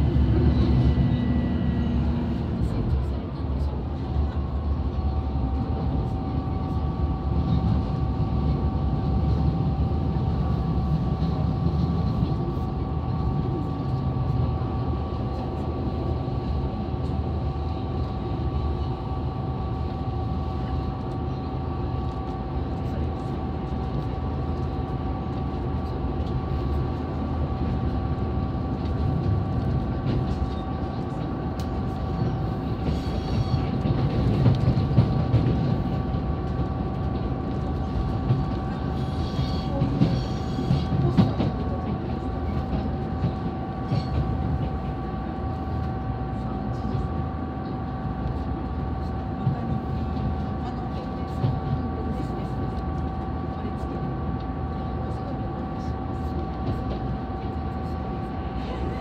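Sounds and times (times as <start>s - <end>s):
diesel engine rumble: 0.0s - 59.0s.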